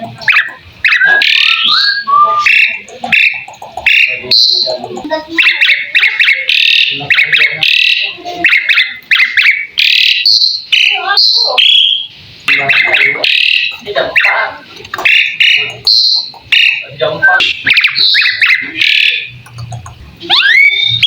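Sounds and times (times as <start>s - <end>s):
starling singing: 0.0s - 21.0s.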